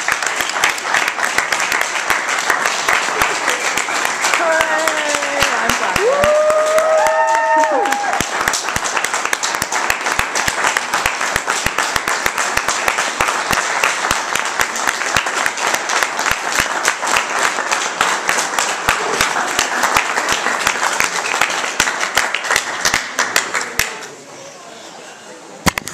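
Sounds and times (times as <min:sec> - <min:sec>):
audience applauding: 0:00.0 - 0:24.1.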